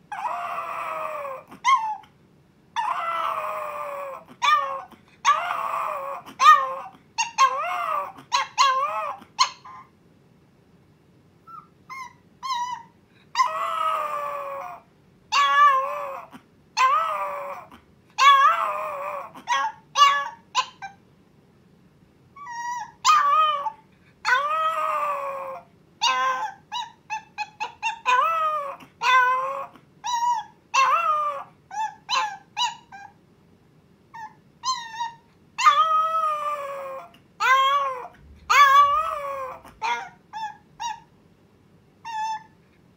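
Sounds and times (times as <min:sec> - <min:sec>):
puppy howling and yipping: 0:00.1 - 0:02.1, 0:02.7 - 0:09.9, 0:11.4 - 0:21.0, 0:22.4 - 0:33.2, 0:34.1 - 0:41.1, 0:42.0 - 0:42.6.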